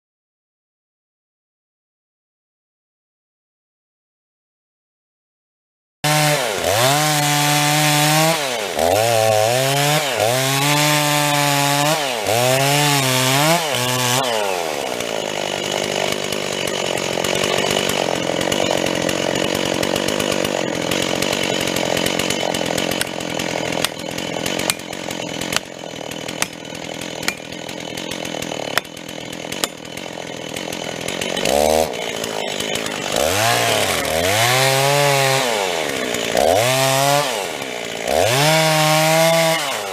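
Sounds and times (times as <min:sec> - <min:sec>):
chainsaw revving and cutting: 0:06.0 - 0:39.9.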